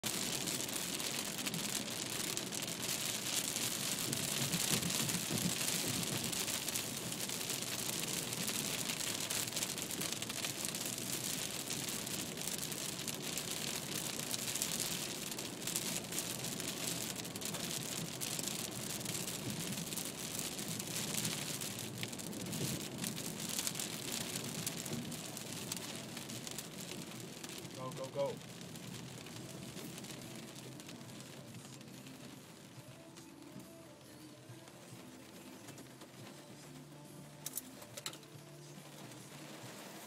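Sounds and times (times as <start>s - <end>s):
tyres hissing on wet road: 0.0s - 33.6s, 38.7s - 40.0s
rain on car windshield and roof: 0.0s - 40.0s.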